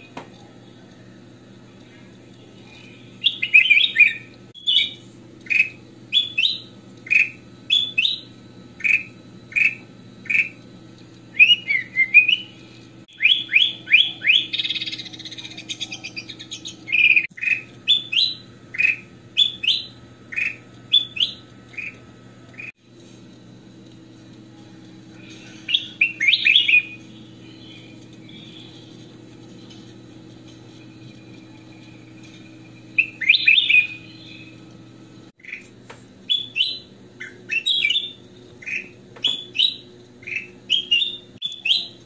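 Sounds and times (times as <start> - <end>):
bulbul singing whistled notes: 2.4 - 10.6, 11.3 - 22.7, 25.2 - 34.7, 36.3 - 42.0.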